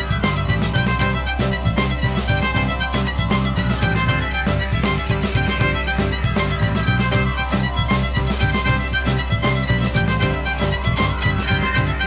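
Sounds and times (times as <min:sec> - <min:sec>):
fiddle melody over a beat: 0:00.0 - 0:12.0.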